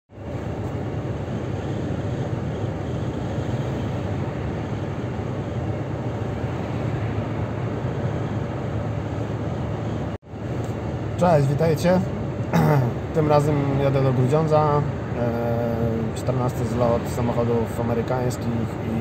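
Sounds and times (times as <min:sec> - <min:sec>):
car road and engine noise: 0:00.1 - 0:19.0.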